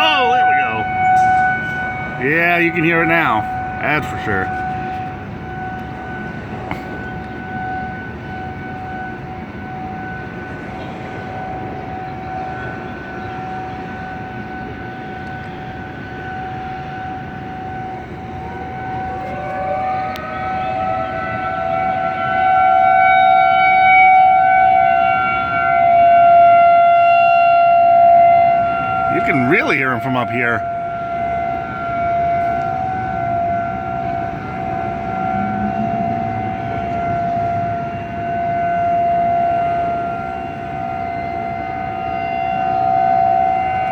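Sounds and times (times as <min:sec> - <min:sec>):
warning siren steady tone: 0:00.0 - 0:43.9.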